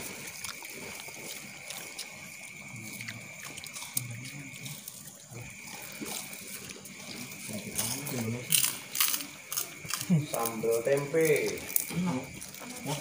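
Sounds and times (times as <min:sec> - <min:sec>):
crackers crunching: 0:00.0 - 0:13.0.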